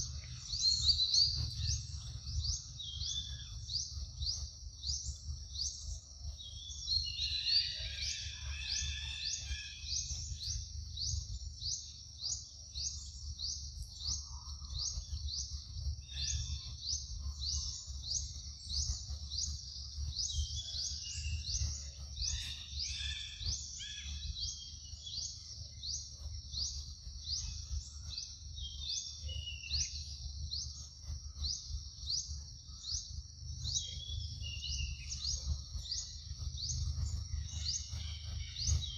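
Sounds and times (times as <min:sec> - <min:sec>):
low steady rumble: 0:00.0 - 0:38.9.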